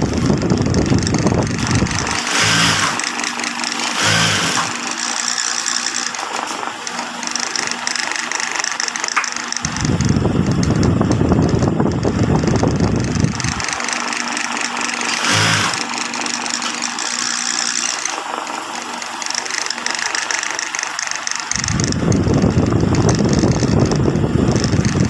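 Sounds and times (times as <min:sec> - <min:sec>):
sewing machine motor hum: 0:00.0 - 0:25.0
sewing machine stitching: 0:00.0 - 0:25.0.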